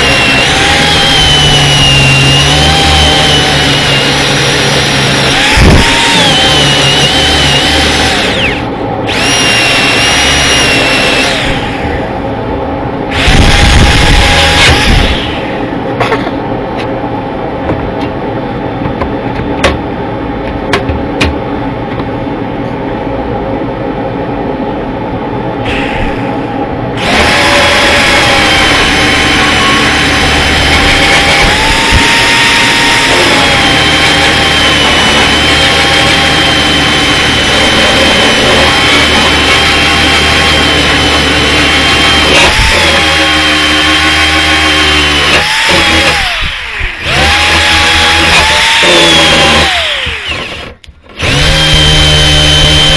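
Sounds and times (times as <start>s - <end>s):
power tool whining: 0.0s - 16.9s, 25.6s - 52.9s.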